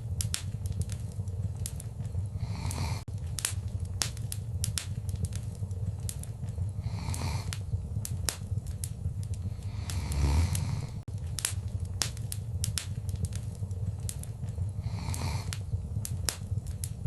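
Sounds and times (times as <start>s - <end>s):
fire hissing: 0.0s - 17.0s
low rumble of flame: 0.0s - 17.0s
wood fire crackling and popping: 0.0s - 17.0s.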